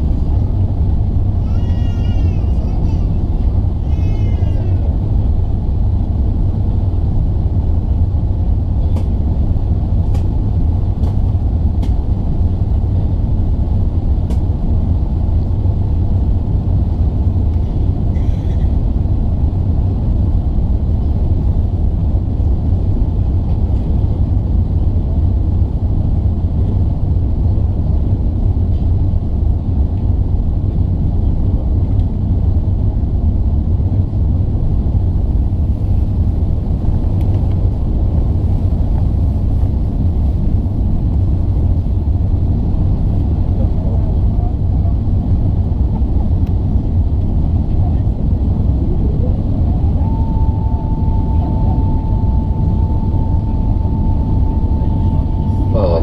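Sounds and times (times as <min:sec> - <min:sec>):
airliner engine rumble in cabin: 0:00.0 - 0:56.0.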